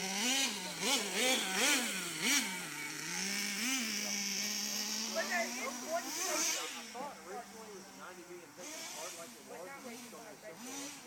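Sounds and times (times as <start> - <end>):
nitro engine revving and idling: 0.0 - 11.0.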